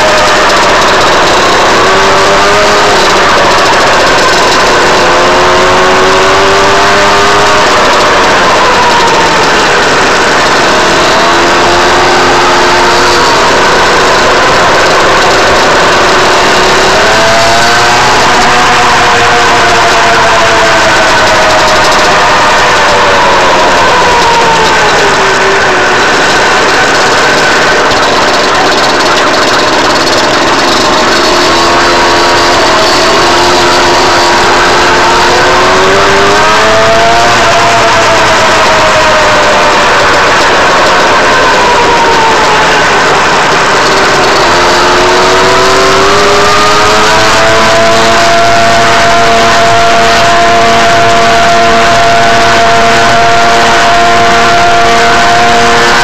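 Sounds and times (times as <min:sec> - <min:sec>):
scooter two-stroke engine: 0:00.0 - 0:56.0
steady rushing noise: 0:00.0 - 0:56.0.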